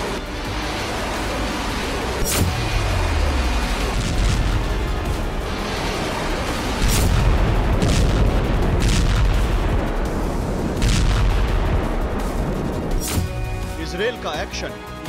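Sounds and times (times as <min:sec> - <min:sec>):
explosions booming: 0:00.0 - 0:13.6
continuous deep rumble: 0:00.0 - 0:14.2
sharp cracks: 0:01.1 - 0:13.5.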